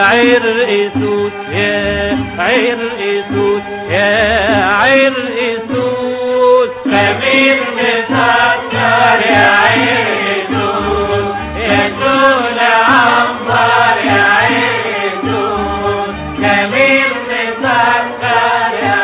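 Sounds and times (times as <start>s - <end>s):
chant-like song over low beat: 0.0s - 19.0s.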